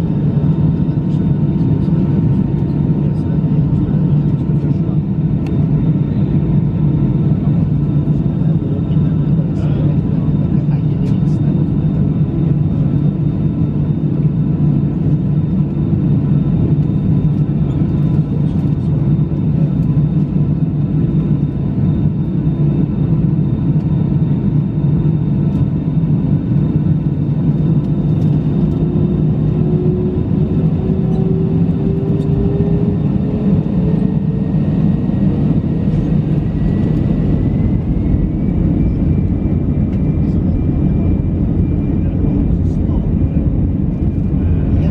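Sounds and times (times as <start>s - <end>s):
engine whine: 0.0s - 44.9s
jet engine cabin rumble: 0.0s - 44.9s.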